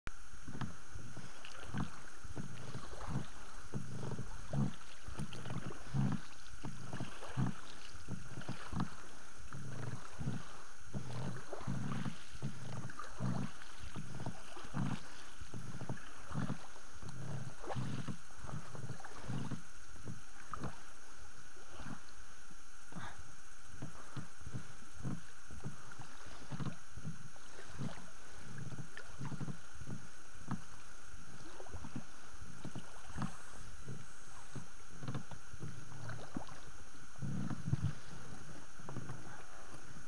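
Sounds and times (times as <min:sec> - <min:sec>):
oars knocking and splashing: 0:00.4 - 0:22.2, 0:22.9 - 0:40.0.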